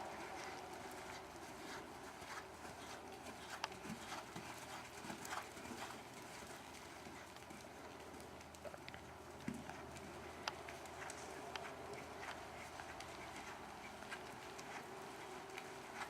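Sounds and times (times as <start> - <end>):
horse hooves thudding: 0.0 - 16.0.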